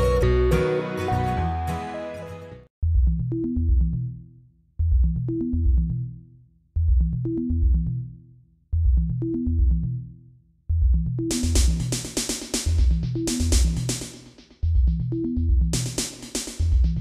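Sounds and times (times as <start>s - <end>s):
electronic music with bass and drums: 0.0s - 2.2s, 2.8s - 8.2s, 8.8s - 17.0s.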